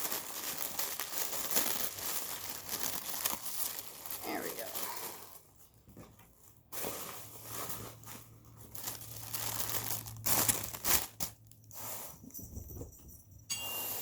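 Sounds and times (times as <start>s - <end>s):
paper packing crinkling: 0.0s - 11.8s.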